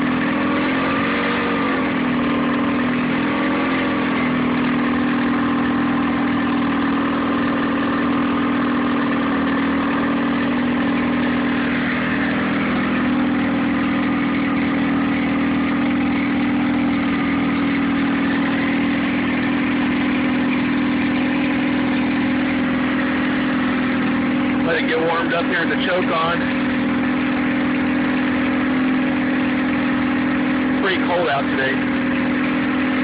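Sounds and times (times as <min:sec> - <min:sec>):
outboard motor idling rough: 0:00.0 - 0:33.0.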